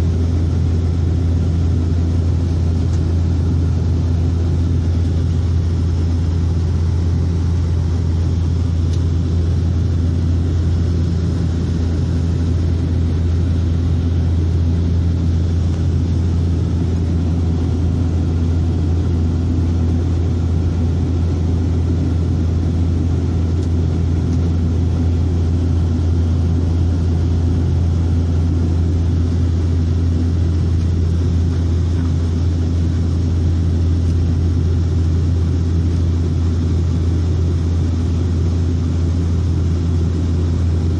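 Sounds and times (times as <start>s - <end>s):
deep propeller drone: 0.0s - 40.9s
engine and air noise: 0.0s - 40.9s.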